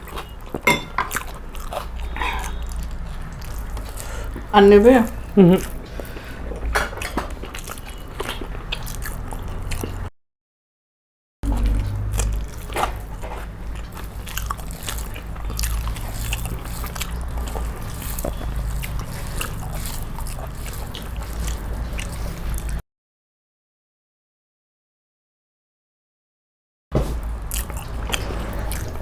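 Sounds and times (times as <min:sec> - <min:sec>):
food being chewed: 0:00.0 - 0:10.1, 0:11.4 - 0:22.8, 0:27.0 - 0:29.0.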